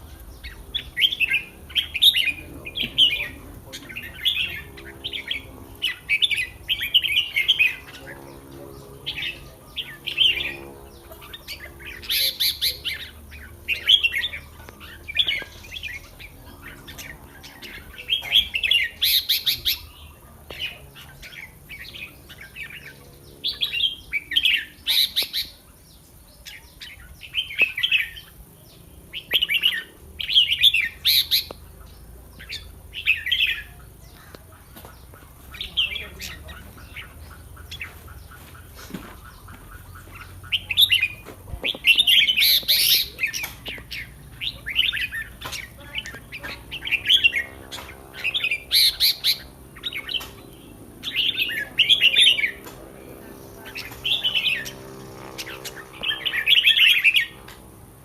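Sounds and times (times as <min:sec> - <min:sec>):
bird singing bright phrases: 0:00.0 - 0:58.0.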